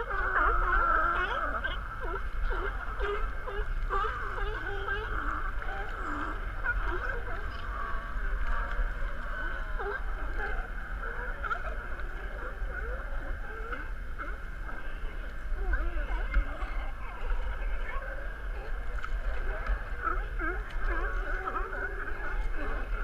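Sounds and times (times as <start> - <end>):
sea lions barking: 0.0 - 23.0
steady low rumble: 0.0 - 23.0.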